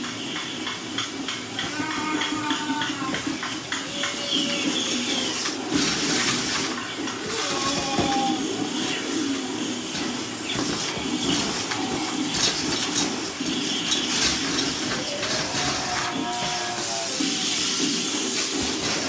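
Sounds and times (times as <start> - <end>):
vacuum cleaner rushing: 0.9 - 19.0.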